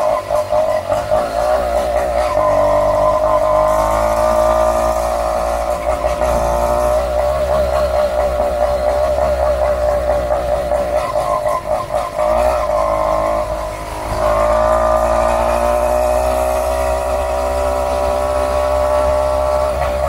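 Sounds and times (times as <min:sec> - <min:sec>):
two-stroke bicycle engine: 0:00.0 - 0:20.0.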